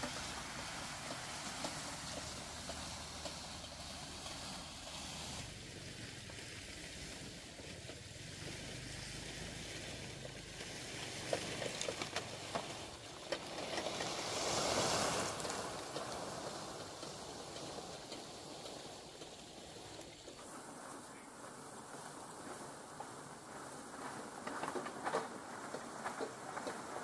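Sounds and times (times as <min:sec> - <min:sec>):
palm fronds dragged on ground: 0:00.0 - 0:27.0.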